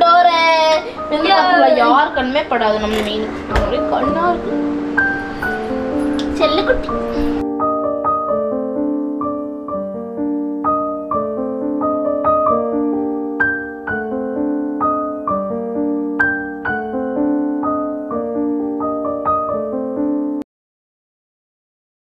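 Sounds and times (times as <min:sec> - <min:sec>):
piano music: 0:00.0 - 0:20.5.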